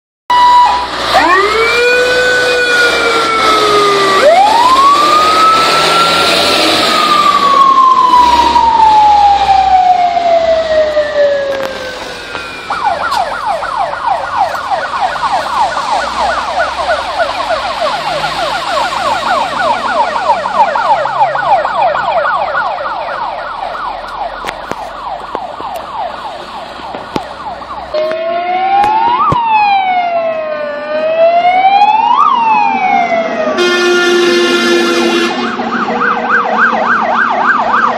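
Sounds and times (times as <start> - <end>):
fire engine siren wailing: 0.3 - 37.9
fire engine siren yelping: 0.3 - 37.9.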